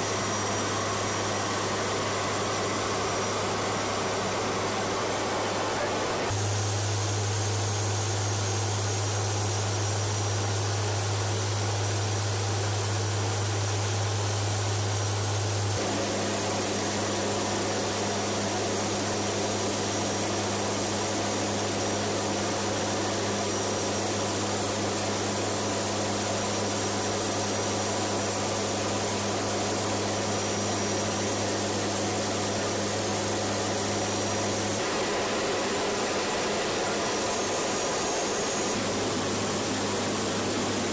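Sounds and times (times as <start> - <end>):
aircraft turboprop engines humming: 0.0 - 11.1, 15.3 - 40.9
cabin hiss: 0.0 - 40.9.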